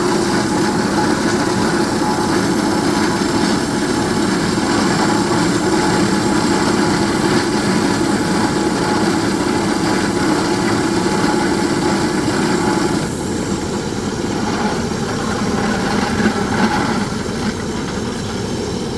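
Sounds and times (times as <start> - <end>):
rock drilling rig running: 0.0 - 18.9.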